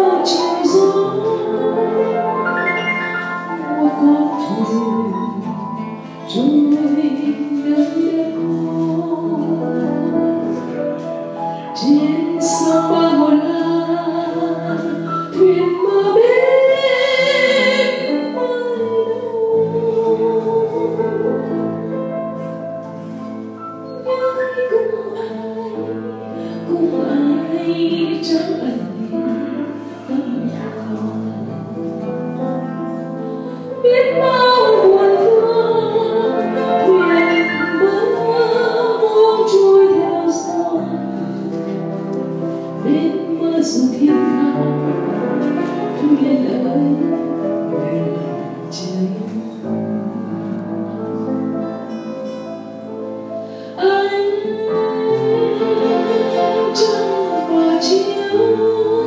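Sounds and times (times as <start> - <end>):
woman singing into microphone: 0.0 - 10.8, 11.5 - 22.5, 23.9 - 31.8, 33.0 - 52.8, 53.5 - 59.0
piano: 0.0 - 59.0.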